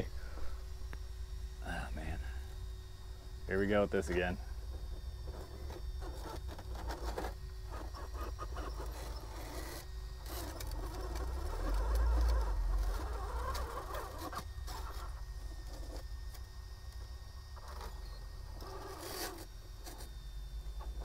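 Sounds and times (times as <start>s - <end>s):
electric motor and servos whirring: 0.0s - 21.0s.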